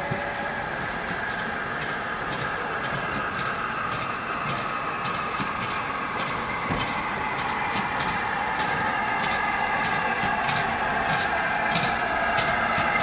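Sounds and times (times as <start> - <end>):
steam hissing: 0.0 - 13.0
wheels clicking over rail joints: 0.0 - 13.0.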